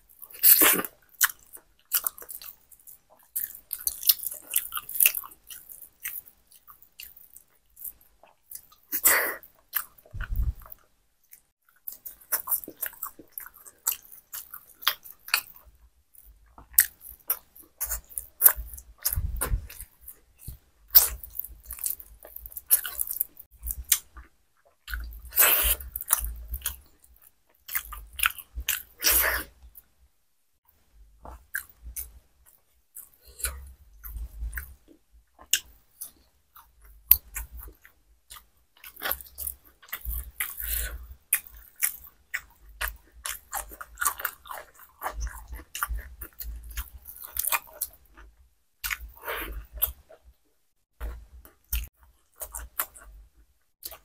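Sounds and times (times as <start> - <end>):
wet chewing: 0.2 - 9.1, 9.7 - 29.5, 31.3 - 50.2.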